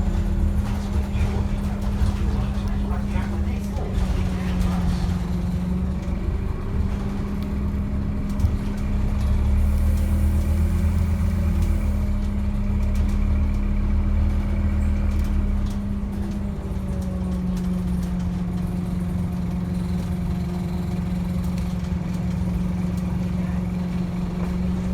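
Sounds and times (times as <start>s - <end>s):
bus diesel engine running: 0.0s - 24.9s.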